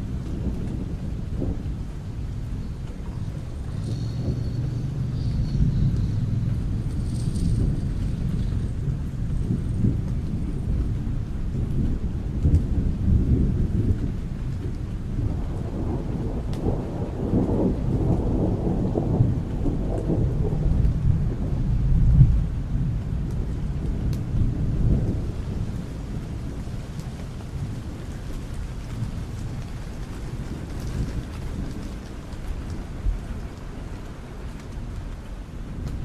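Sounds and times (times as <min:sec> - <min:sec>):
heavy rain: 0:00.0 - 0:36.0
thunder rumbling: 0:00.0 - 0:36.0.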